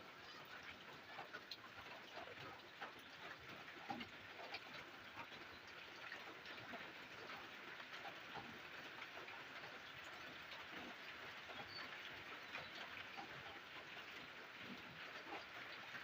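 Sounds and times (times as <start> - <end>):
faint steady rain: 0.0 - 16.0.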